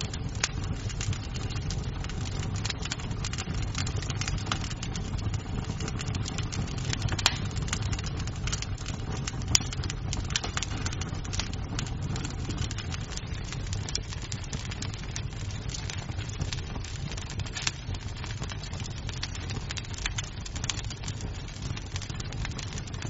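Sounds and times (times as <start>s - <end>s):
burning wood popping: 0.0s - 23.0s
fire flames rumbling: 0.0s - 23.0s
small fire crackles: 0.0s - 23.0s.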